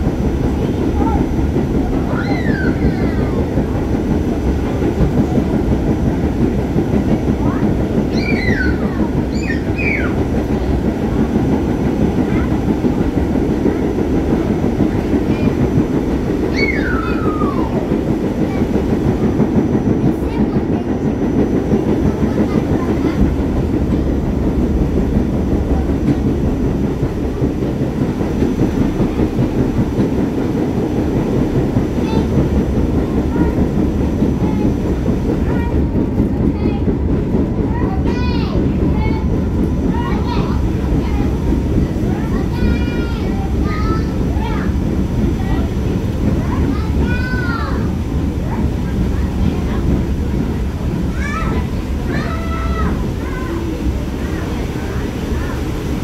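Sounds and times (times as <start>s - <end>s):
subway car rumbling on rails: 0.0s - 56.0s.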